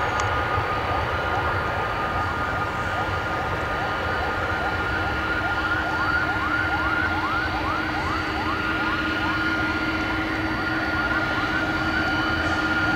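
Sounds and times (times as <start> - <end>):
jet engines rumbling and whining: 0.0 - 12.9.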